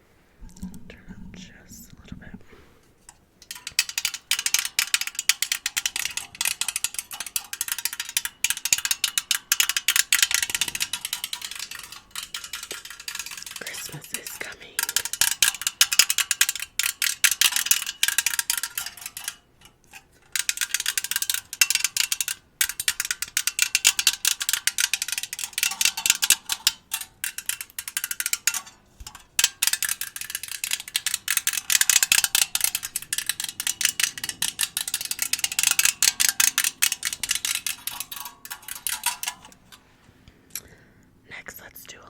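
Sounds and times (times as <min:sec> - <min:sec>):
jingle bells rattling: 0:03.4 - 0:19.5, 0:20.2 - 0:39.8.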